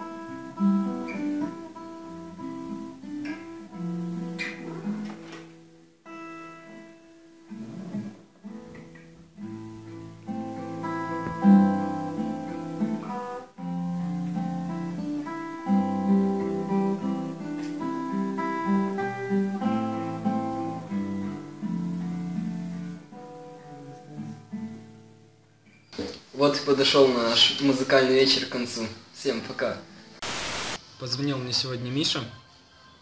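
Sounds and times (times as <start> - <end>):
fingerstyle acoustic guitar: 0.0 - 27.5.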